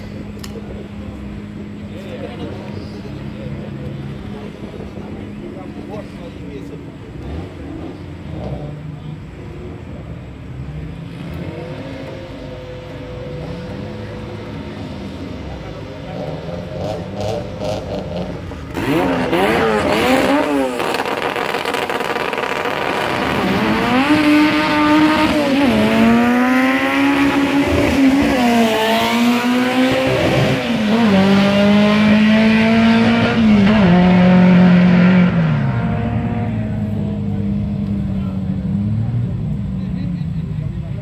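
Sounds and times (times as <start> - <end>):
race car accelerating hard: 0.0 - 9.4, 10.3 - 41.0.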